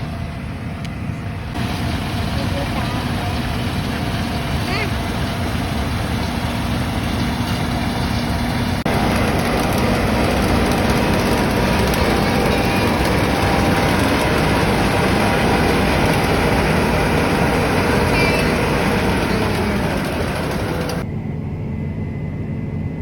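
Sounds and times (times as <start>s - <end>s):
harvest machinery engine drone: 0.0s - 23.0s.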